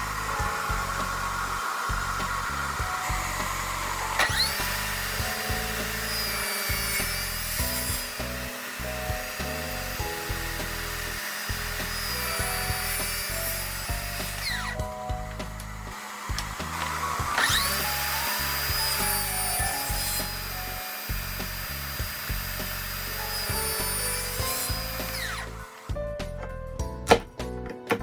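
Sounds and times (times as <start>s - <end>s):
power tool cutting wood: 0.0s - 26.4s
background music: 0.0s - 28.0s.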